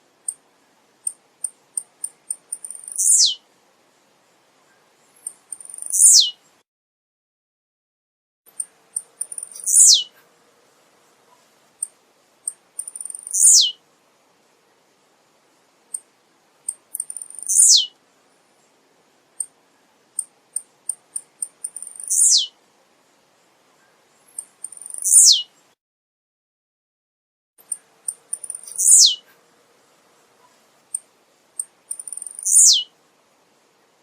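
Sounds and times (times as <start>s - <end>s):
bird song with high ticks and buzz: 0.0s - 6.6s, 8.5s - 25.8s, 27.6s - 34.0s.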